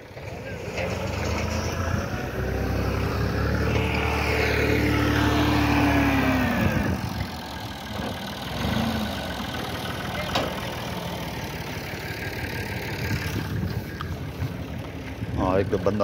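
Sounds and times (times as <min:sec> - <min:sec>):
tractor diesel engine working hard: 0:00.0 - 0:16.0.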